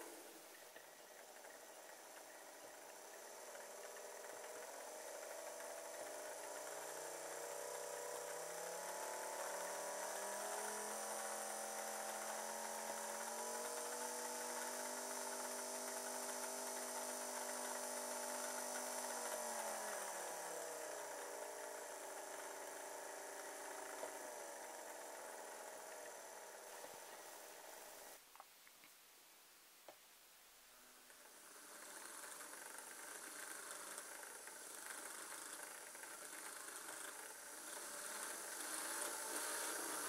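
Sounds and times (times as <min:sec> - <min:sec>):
small electric motors whining: 0:00.0 - 0:28.2, 0:31.1 - 0:40.0.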